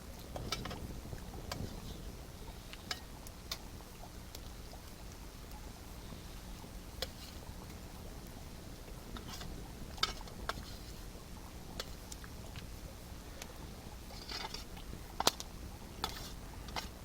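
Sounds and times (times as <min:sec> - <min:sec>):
wood campfire crackling: 0:00.0 - 0:17.0.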